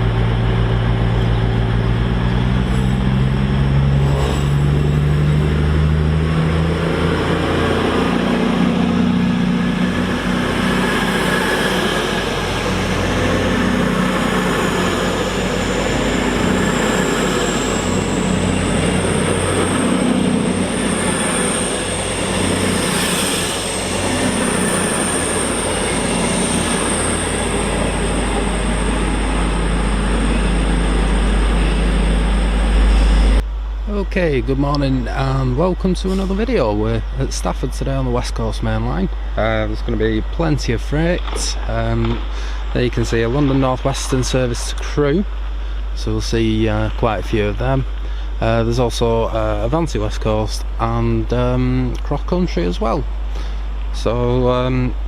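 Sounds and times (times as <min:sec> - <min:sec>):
train wheels rumbling on track: 0:00.0 - 0:53.2
thin high whine: 0:00.0 - 0:55.0.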